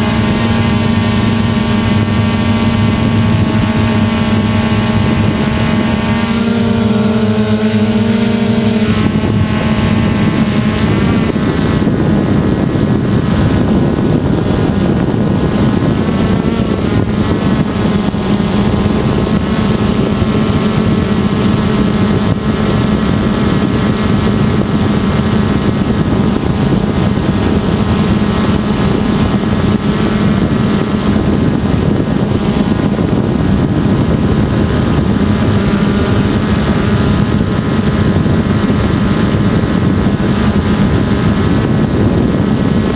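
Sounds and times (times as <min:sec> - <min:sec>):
drone motors droning: 0:00.0 - 0:42.9.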